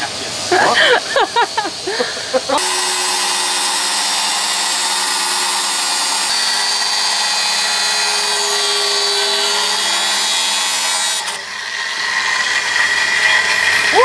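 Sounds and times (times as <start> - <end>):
angle grinder cutting sheet metal: 2.5 - 14.0.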